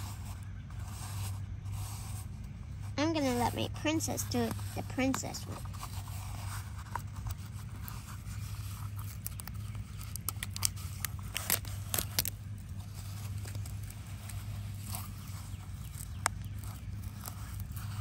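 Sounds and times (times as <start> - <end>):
steady low hum: 0.0 - 18.0
plastic packaging crinkling: 3.2 - 18.0.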